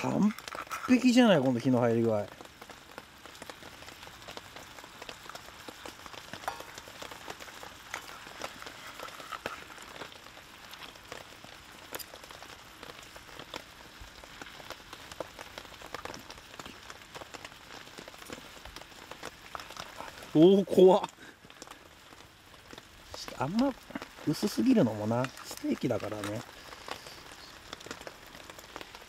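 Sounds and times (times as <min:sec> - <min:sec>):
raindrops ticking: 0:00.0 - 0:29.0
steady rain hiss: 0:00.0 - 0:29.0.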